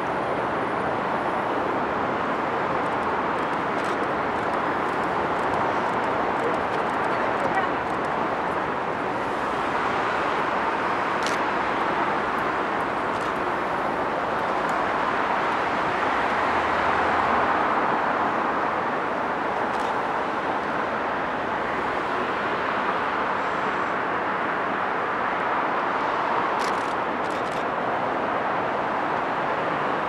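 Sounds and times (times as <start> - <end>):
city road traffic: 0.0 - 30.0.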